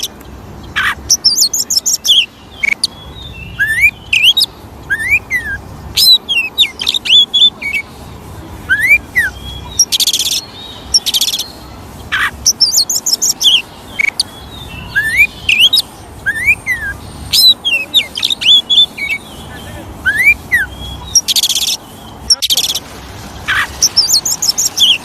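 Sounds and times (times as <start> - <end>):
bird singing whistles and chatter: 0.0 - 25.0
harsh buzzing bird calls: 0.0 - 25.0.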